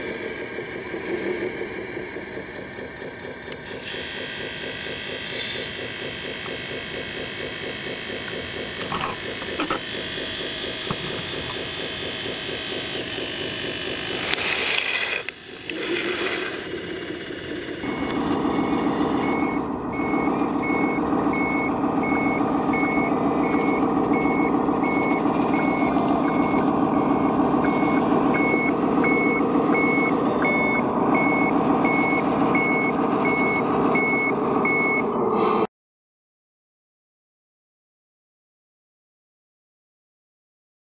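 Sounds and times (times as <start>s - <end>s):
reversing beeper: 0.0s - 14.3s, 17.1s - 35.7s
toy truck motor drone: 0.0s - 35.5s.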